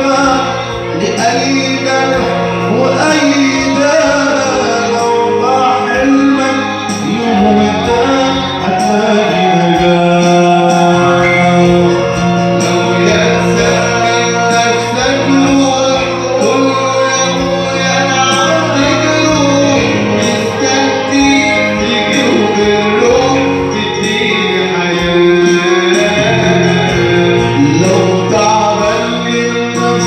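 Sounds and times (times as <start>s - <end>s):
instrumental accompaniment: 0.0s - 30.0s
man singing a hymn: 0.0s - 30.0s.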